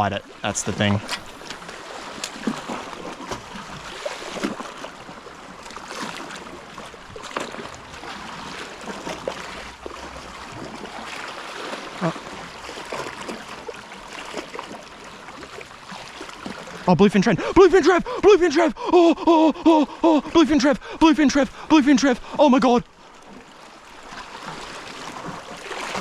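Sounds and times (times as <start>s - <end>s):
seawater washing around rocks: 0.0s - 26.0s.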